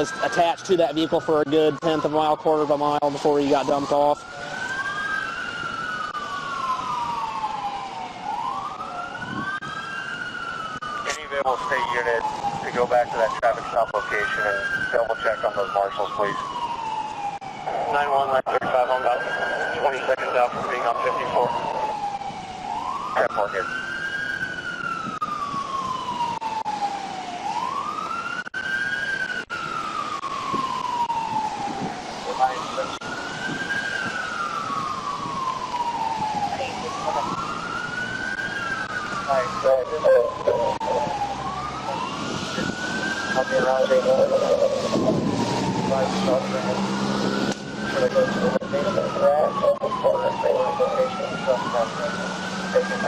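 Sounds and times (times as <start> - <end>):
police siren wailing: 0.0 - 53.0.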